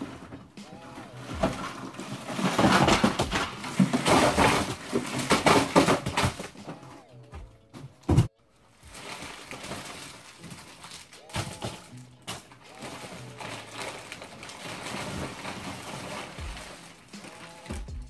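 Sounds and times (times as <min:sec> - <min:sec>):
snack packages crinkling: 0:00.0 - 0:06.8, 0:08.6 - 0:17.9.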